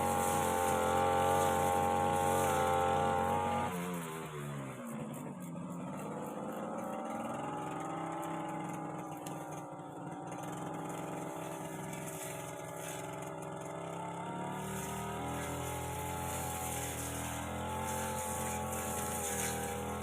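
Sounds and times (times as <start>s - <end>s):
brush cutter engine running: 0.0s - 20.0s.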